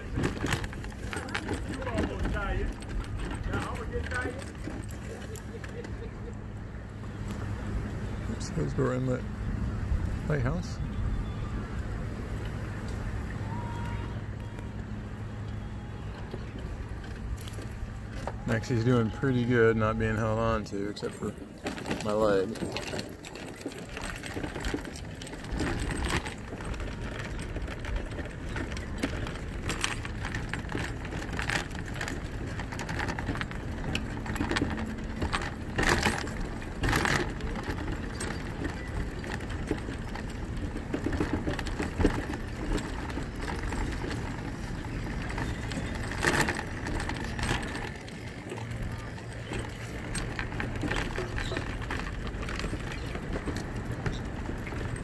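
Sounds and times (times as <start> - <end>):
rattles and clicks: 0.0 - 7.6, 12.3 - 55.0
scooter rolling on wooden deck: 0.0 - 9.3, 10.4 - 55.0.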